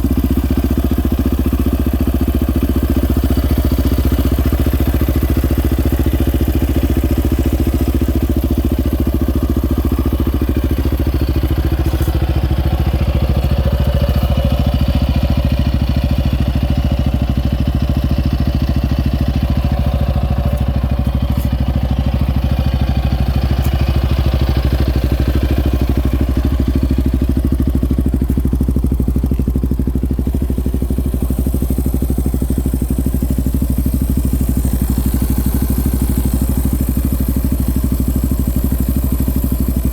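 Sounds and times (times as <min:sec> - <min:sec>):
quad bike engine idling: 0:00.0 - 0:39.9.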